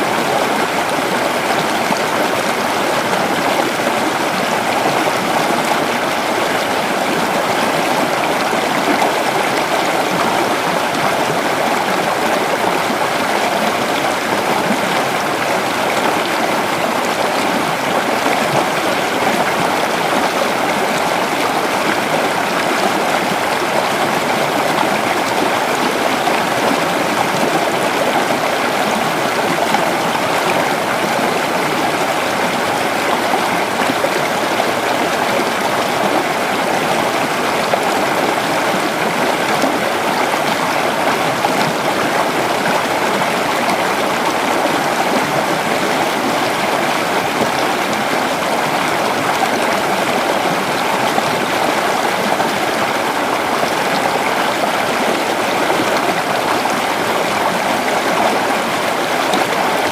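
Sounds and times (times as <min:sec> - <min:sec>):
creek water babbling over rocks: 0:00.0 - 0:59.9.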